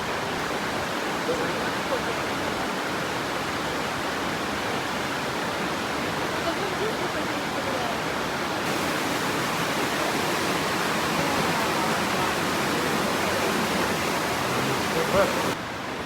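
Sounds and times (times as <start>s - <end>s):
river rushing through gorge: 0.1s - 16.0s.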